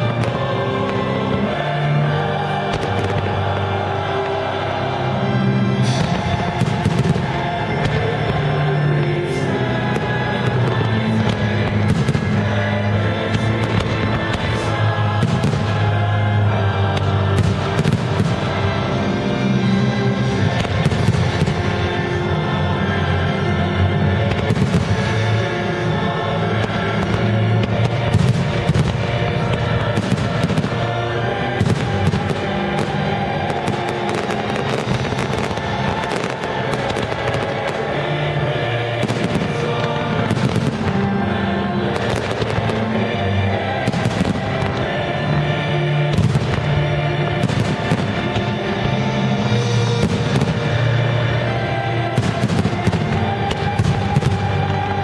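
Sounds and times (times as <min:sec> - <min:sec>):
fireworks bangs and crackles: 0:00.0 - 0:55.0
loud show music: 0:00.0 - 0:55.0.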